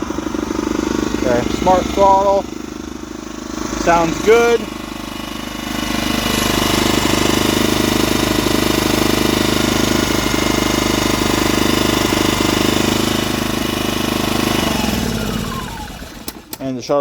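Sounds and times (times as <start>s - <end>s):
generator running: 0.0s - 17.0s.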